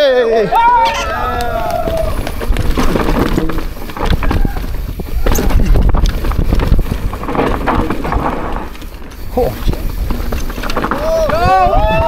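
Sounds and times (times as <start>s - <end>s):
wind rushing over microphone: 1.0s - 12.0s
mountain bike rattling and knocking: 1.2s - 12.0s.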